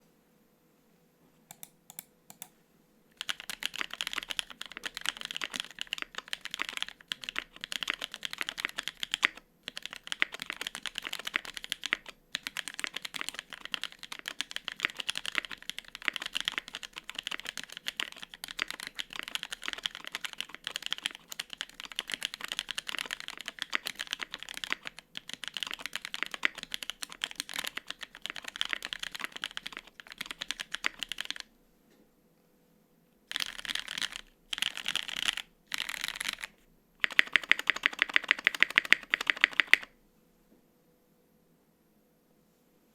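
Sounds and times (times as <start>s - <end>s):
mechanical keyboard typing: 1.5s - 2.5s, 3.2s - 31.5s, 33.3s - 39.9s.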